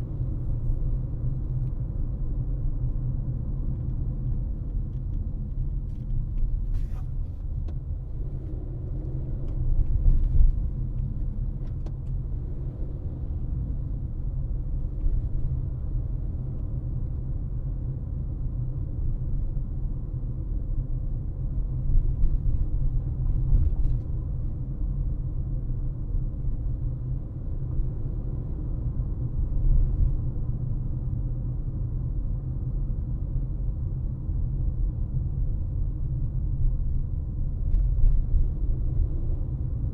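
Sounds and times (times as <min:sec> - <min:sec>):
car driving rumble: 0:00.0 - 0:39.9
road and tyre noise: 0:00.0 - 0:39.9.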